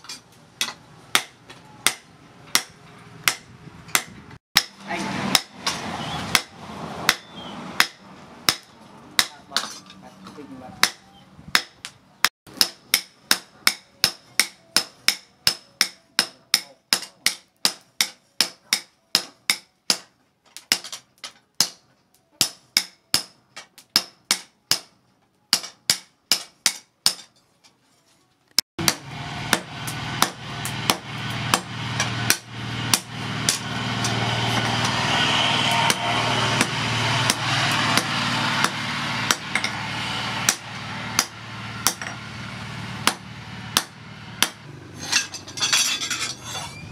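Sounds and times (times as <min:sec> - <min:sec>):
hammers striking blade on anvil: 0:00.0 - 0:09.9, 0:10.8 - 0:20.1, 0:22.4 - 0:24.9, 0:25.5 - 0:27.4, 0:28.8 - 0:42.2, 0:43.0 - 0:46.5.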